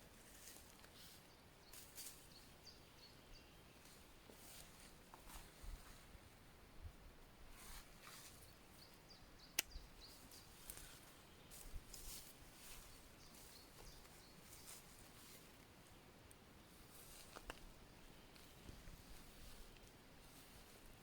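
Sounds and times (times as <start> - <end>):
faint rustles: 0.0 - 2.5, 3.8 - 6.5, 7.4 - 8.9, 10.1 - 15.9, 16.6 - 21.0.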